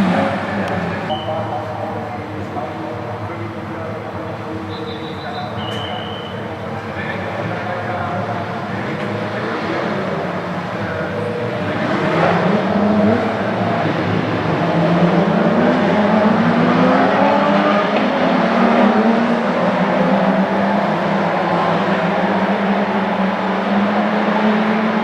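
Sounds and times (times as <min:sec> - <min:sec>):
sports car engines accelerating: 0:00.0 - 0:25.0.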